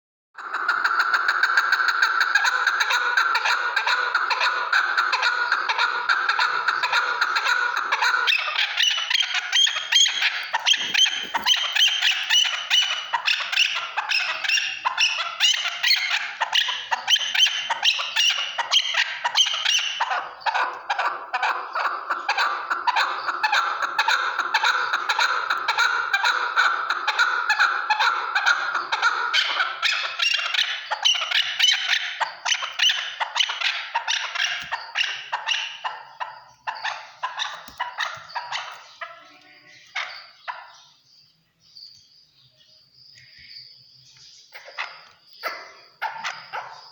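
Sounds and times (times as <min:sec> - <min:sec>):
partridges chattering calls: 0:00.4 - 0:46.9.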